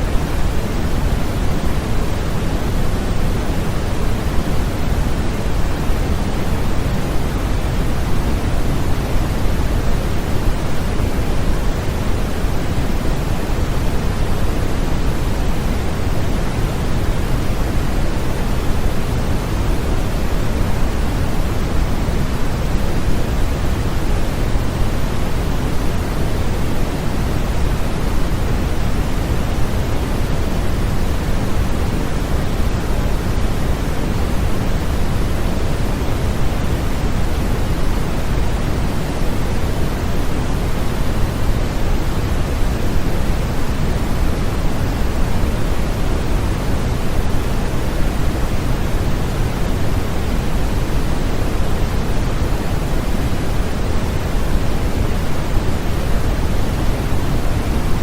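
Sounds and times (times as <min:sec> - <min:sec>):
synthetic white noise: 0:00.0 - 0:58.0.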